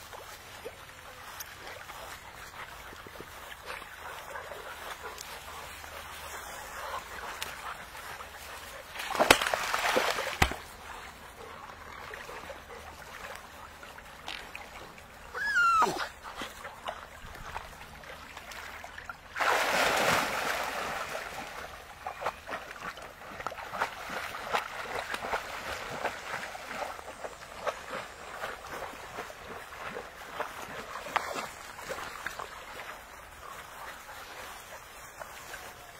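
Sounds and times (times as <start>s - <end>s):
puppies splashing in water: 0.0s - 35.9s.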